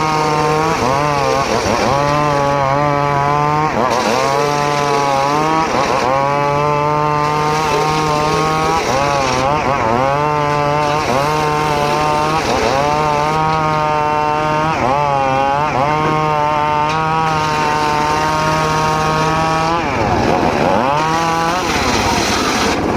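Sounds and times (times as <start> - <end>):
circular saw whining through wood: 0.0 - 22.9.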